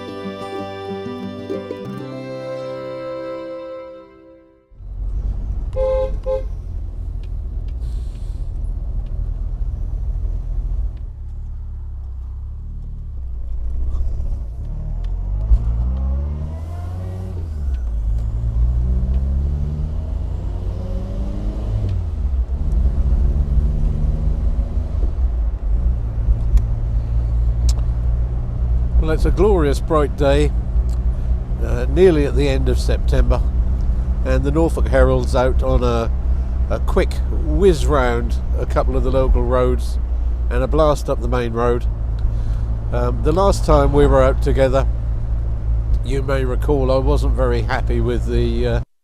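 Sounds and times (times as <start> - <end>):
car engine accelerating: 2.0 - 48.5.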